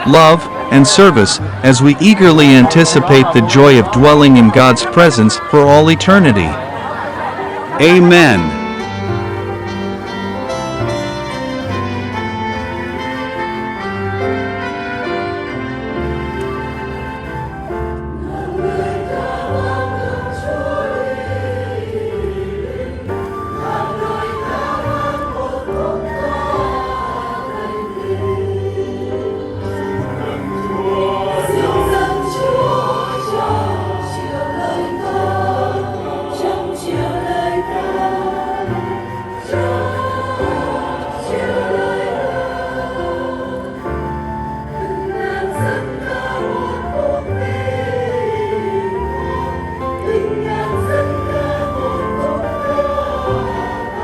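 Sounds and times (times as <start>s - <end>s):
choir singing sacred music: 0.0s - 54.0s
sustained low accompaniment: 0.0s - 54.0s.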